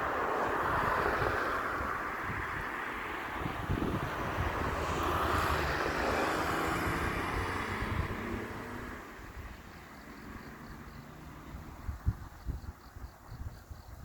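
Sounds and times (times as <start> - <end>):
road vehicle passing by: 0.0 - 12.4.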